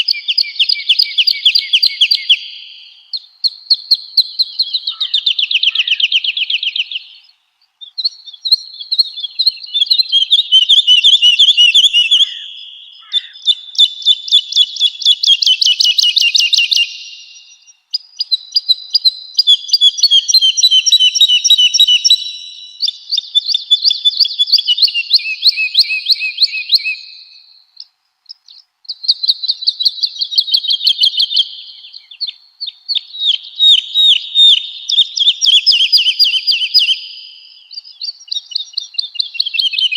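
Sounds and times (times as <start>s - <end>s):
woodlark singing: 0.0s - 39.9s.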